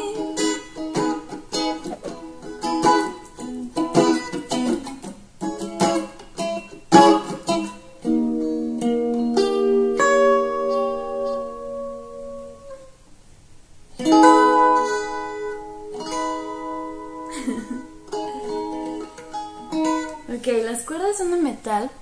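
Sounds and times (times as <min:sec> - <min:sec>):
electric ukulele chords: 0:00.0 - 0:12.8, 0:14.0 - 0:20.3.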